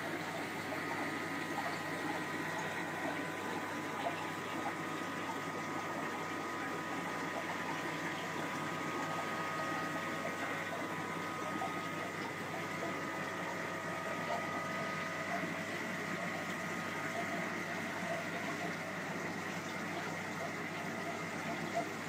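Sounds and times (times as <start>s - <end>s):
aquarium pumps and flowing water: 0.0s - 22.0s.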